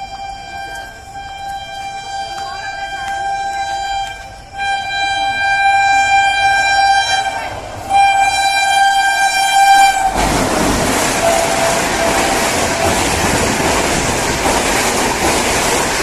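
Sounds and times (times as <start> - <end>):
train horn blasts: 0.0 - 14.1
train passing rushing noise: 0.0 - 16.0.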